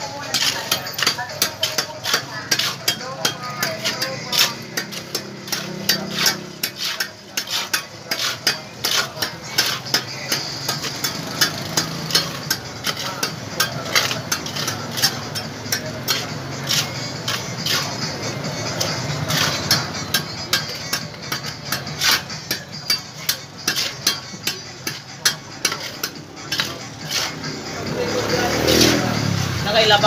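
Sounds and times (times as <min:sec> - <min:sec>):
trowels scraping wet mortar: 0:00.0 - 0:29.0.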